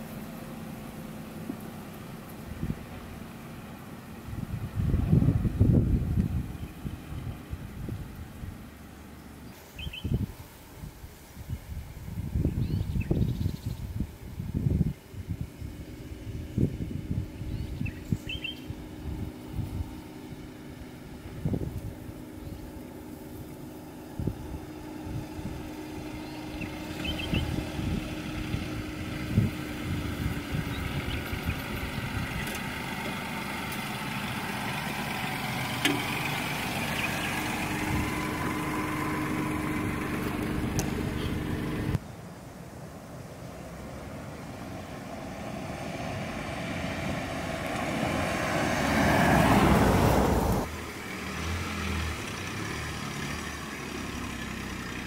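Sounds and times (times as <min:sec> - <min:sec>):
car engine hum: 0:00.0 - 0:55.0
rushing engine and tyre noise: 0:00.0 - 0:55.0.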